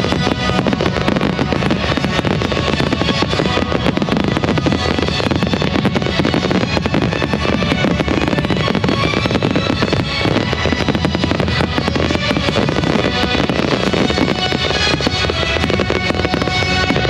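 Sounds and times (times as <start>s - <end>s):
fireworks bangs and crackles: 0.0s - 17.0s
loud music: 0.0s - 17.0s.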